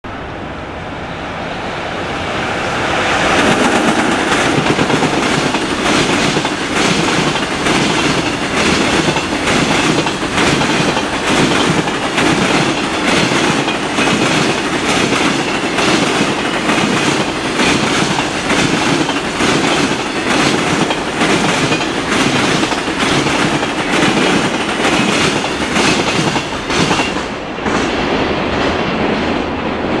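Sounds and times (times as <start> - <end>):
electric locomotive passing: 0.0 - 30.0
train wheels clattering over rail joints: 3.4 - 28.0.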